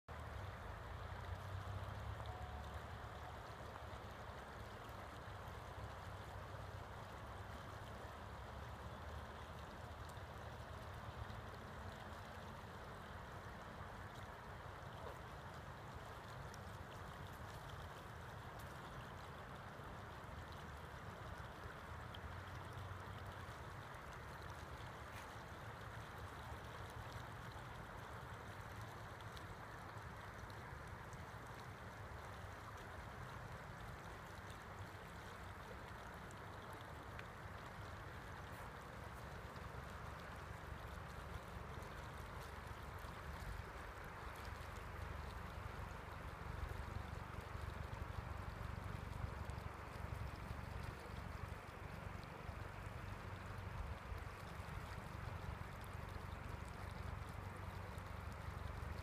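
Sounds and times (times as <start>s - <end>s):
water rushing: 0.1s - 59.0s.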